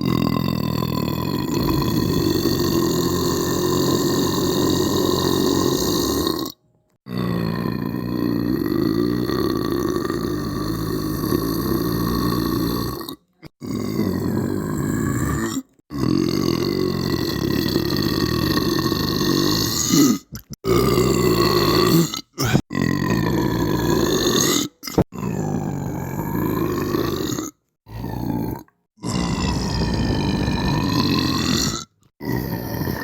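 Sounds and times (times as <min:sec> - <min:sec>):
person belching: 0:00.0 - 0:33.0.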